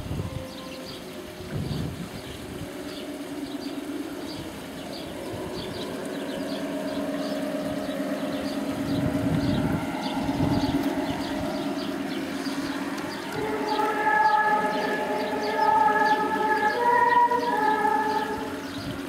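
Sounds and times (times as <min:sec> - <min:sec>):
low droning hum: 0:00.0 - 0:19.0
small birds chirping: 0:00.5 - 0:19.0.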